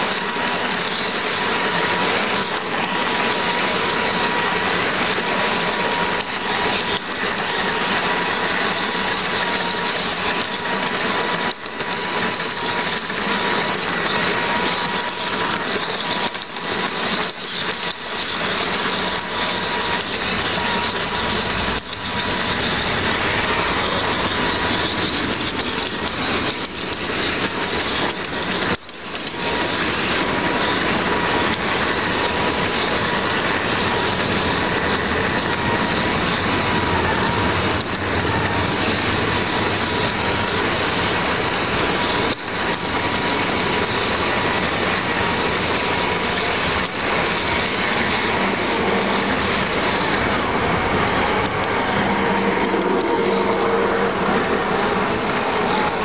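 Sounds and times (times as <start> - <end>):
wheels rattling on rails: 0.0 - 56.0.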